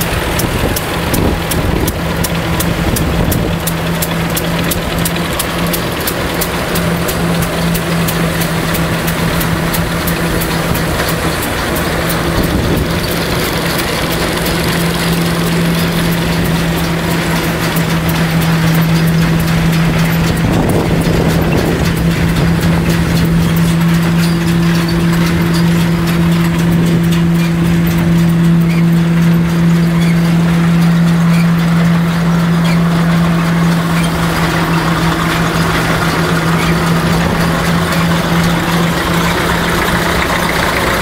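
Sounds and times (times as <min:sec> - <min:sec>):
higher machine hum: 0:00.0 - 0:41.0
threshing machine humming: 0:00.0 - 0:41.0.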